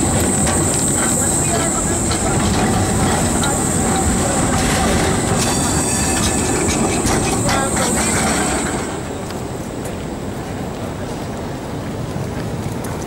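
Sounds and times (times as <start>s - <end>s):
tram clicks and clatter: 0.0s - 13.0s
tram wheels rumbling on rails: 0.0s - 13.0s.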